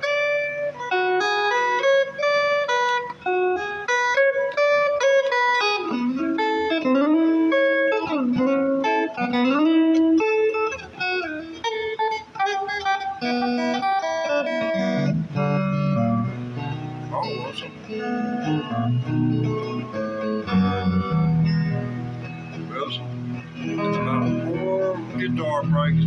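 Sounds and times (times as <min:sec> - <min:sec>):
solo guitar melody: 0:00.0 - 0:26.0.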